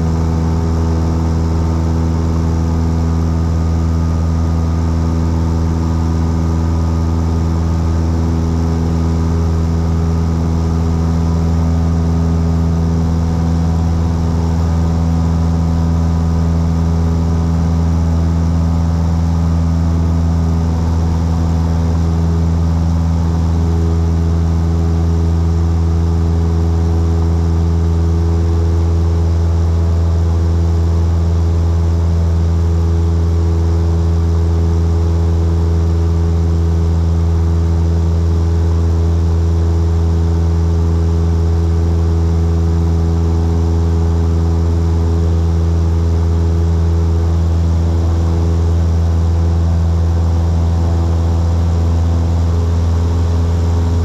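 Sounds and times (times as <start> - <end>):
aircraft engine drone from cabin: 0.0 - 54.0.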